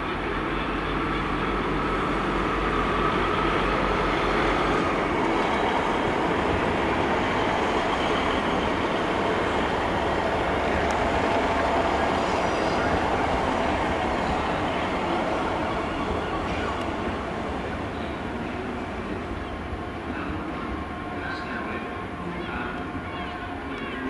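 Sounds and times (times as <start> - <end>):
diesel locomotive engine running: 0.0 - 24.0.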